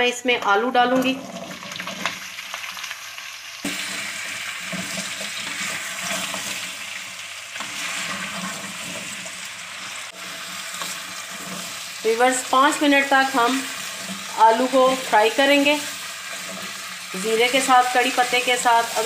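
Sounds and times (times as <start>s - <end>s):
potatoes sizzling in hot oil: 0.8s - 19.0s.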